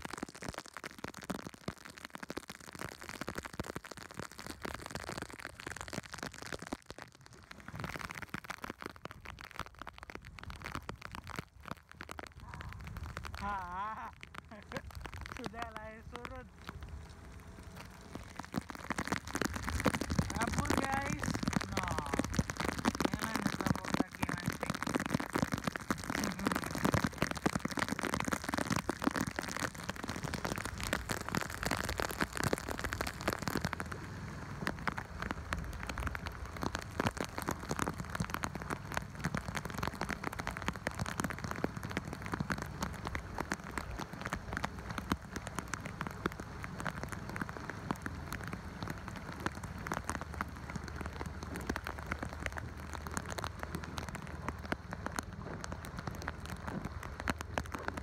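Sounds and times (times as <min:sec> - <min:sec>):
heavy rain on sea and deck: 0:00.0 - 0:58.0.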